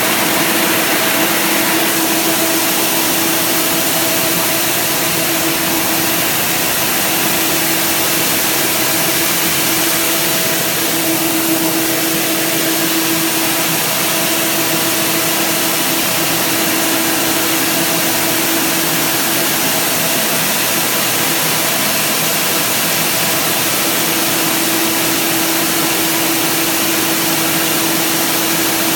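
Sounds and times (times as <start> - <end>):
machine motors and blowers hissing: 0.0 - 28.9.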